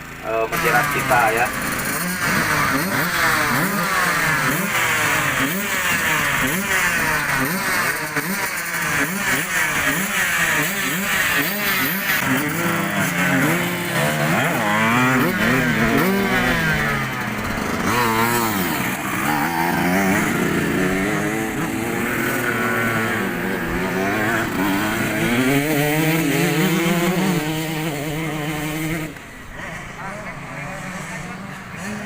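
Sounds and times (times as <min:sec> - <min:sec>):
motocross bike engines revving: 0:00.0 - 0:32.0.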